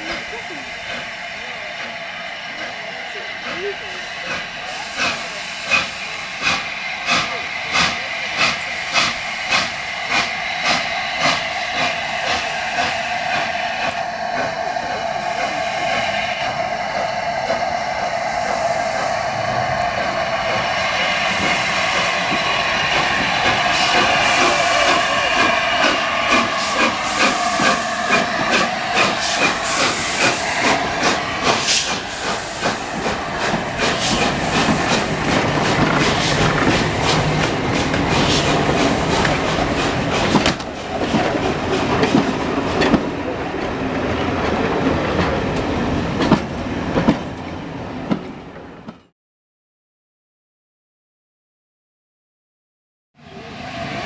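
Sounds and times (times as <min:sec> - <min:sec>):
steam locomotive passing: 0:00.0 - 0:49.0, 0:53.2 - 0:54.0
train rumble: 0:00.0 - 0:49.1, 0:53.2 - 0:54.0.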